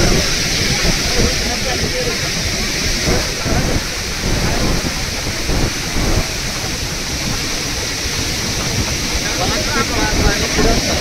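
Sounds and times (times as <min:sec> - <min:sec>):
floodwater rushing through rapids: 0:00.0 - 0:11.0
low rumble: 0:00.0 - 0:11.0.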